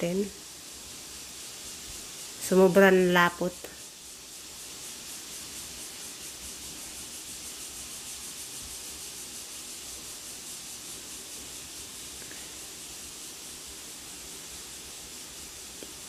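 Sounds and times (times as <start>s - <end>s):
steady pulsing hiss: 0.0s - 16.0s.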